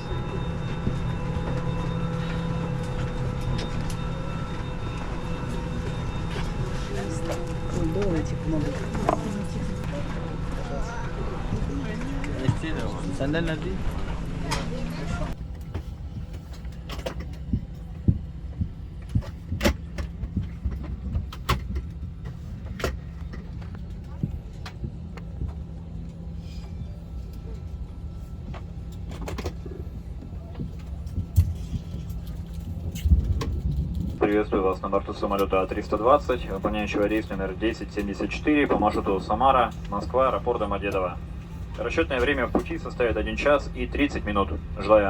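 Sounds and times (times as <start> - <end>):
air-conditioning airflow: 0.0 - 45.0
aircraft systems drone: 0.0 - 45.0
constant whining tones: 0.0 - 45.0.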